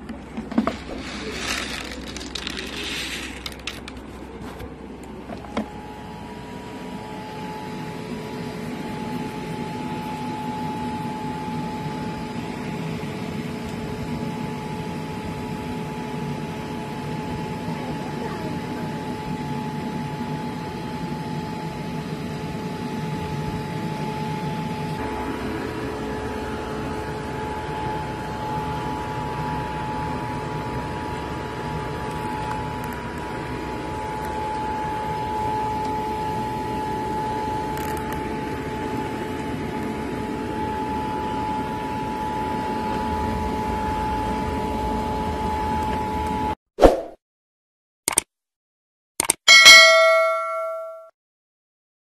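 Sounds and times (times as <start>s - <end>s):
vacuum cleaner motor whine: 0.0s - 46.6s.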